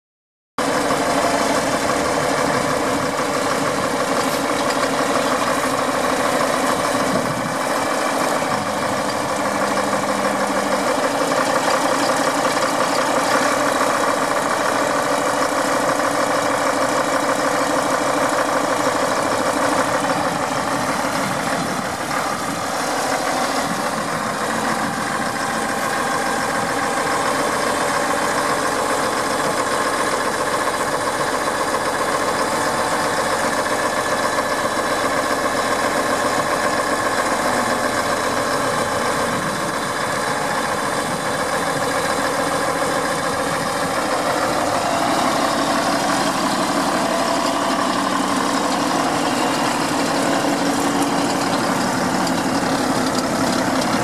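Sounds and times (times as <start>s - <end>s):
diesel engine running: 0.6s - 54.0s.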